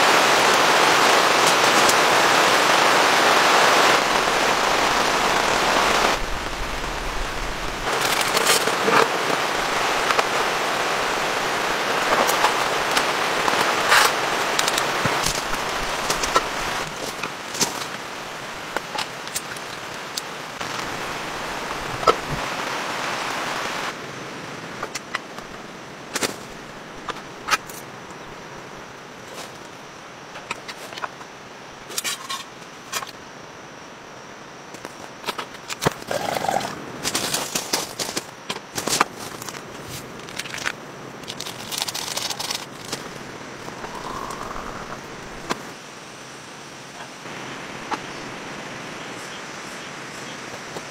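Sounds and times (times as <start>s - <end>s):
heavy rain hiss: 0.0s - 30.3s, 35.8s - 50.9s.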